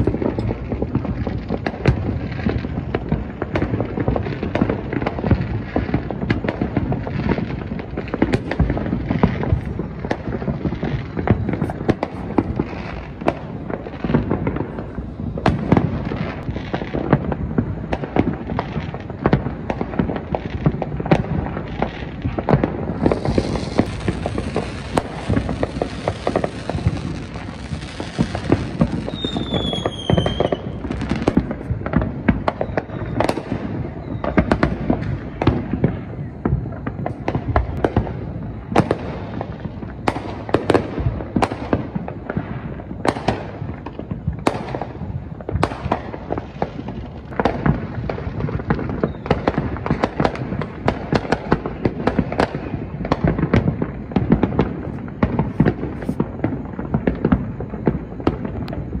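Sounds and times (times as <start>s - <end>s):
fireworks bangs and crackles: 0.0s - 59.0s
whistling firework: 0.0s - 59.0s.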